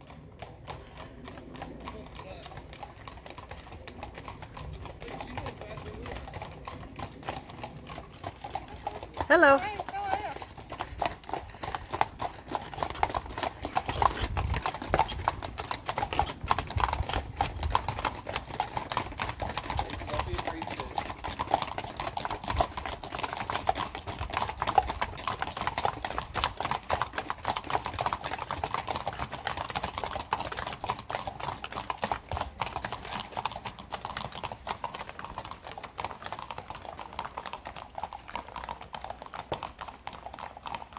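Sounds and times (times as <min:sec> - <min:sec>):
hooves clip-clopping on asphalt: 0:00.0 - 0:40.9.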